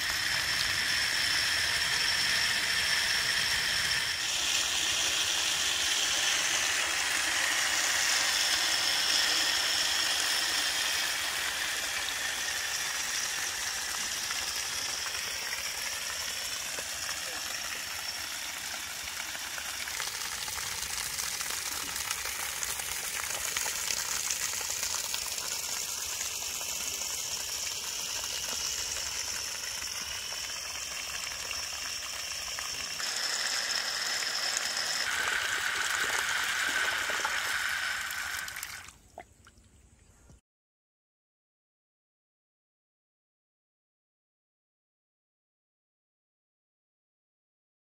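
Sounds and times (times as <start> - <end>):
water jet splashing on mud: 0.0 - 39.0.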